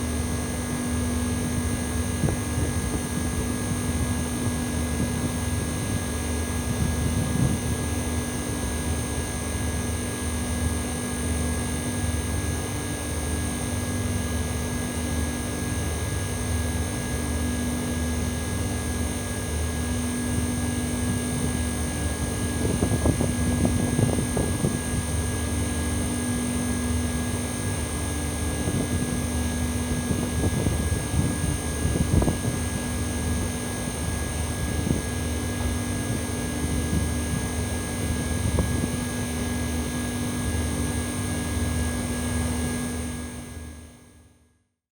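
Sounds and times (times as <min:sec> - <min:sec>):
air conditioner unit humming: 0:00.0 - 0:43.9.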